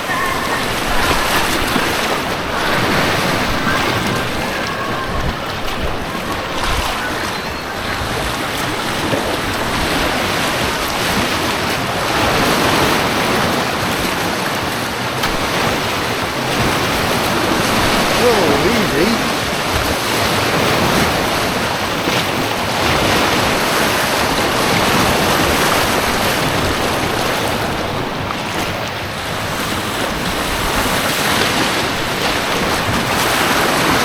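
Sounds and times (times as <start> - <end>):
rushing white water: 0.0 - 34.0.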